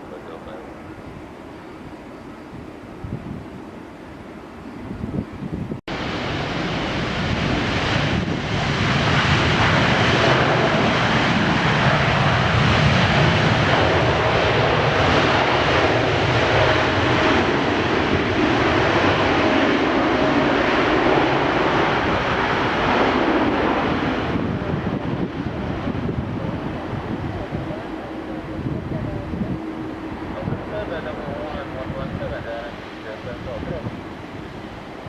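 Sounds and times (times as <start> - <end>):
jet engines roaring: 5.9 - 35.0.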